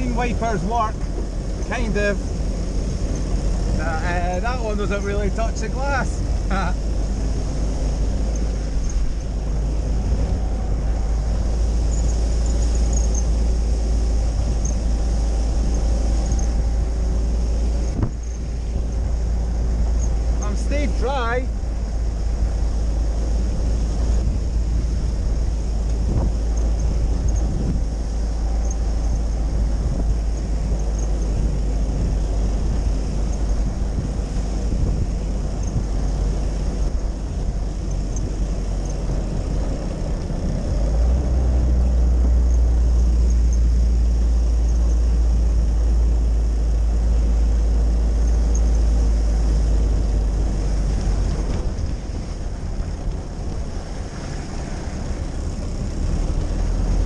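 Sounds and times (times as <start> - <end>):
engine rumble from inside cab: 0.0 - 57.0
road and wind noise: 0.0 - 57.0.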